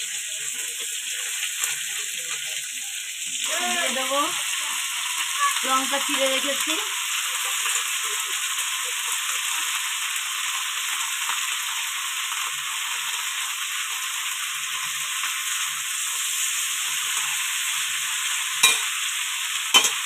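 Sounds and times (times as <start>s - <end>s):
leaves sizzling in hot oil: 0.0s - 20.0s.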